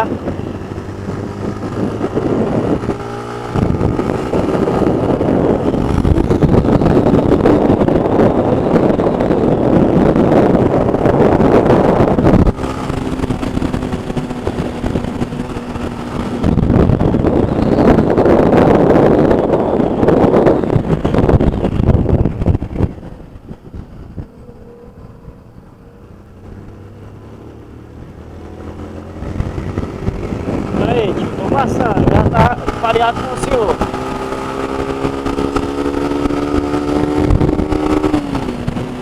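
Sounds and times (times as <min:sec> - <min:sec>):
motorcycle engine running: 0:00.0 - 0:39.0
wind rush on microphone: 0:00.0 - 0:39.0.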